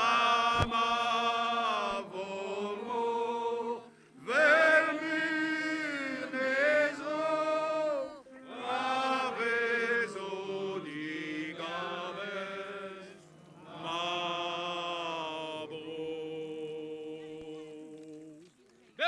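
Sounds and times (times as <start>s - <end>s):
voices chanting: 0.0s - 18.3s.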